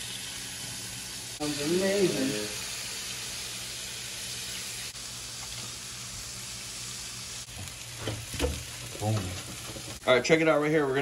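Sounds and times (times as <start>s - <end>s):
fish frying in oil: 0.0s - 10.3s.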